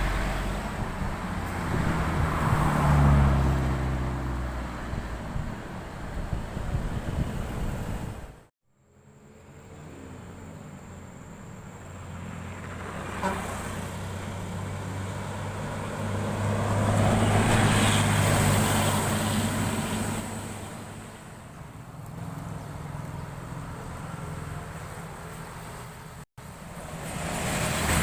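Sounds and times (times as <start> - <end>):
heavy vehicle passing: 0.0 - 5.5, 9.4 - 28.0
vehicle approaching: 0.0 - 28.0.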